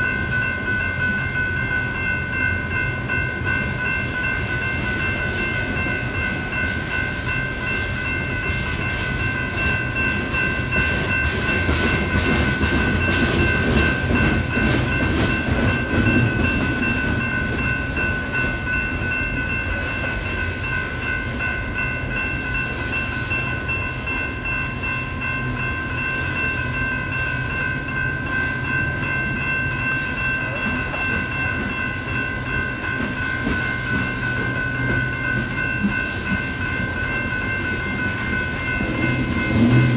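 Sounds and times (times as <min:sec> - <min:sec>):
electronic crossing bells ringing: 0:00.0 - 0:39.9
freight train rumbling and clacking: 0:00.0 - 0:39.9.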